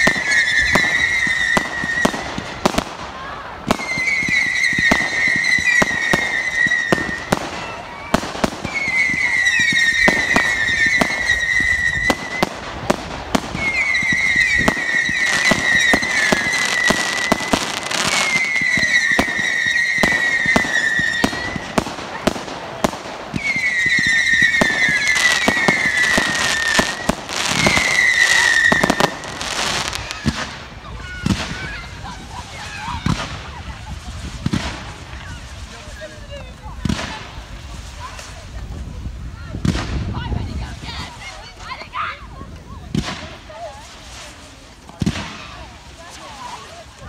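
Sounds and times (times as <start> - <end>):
firework bangs and crackles: 0.0 - 47.0
whistling fireworks: 0.0 - 47.0.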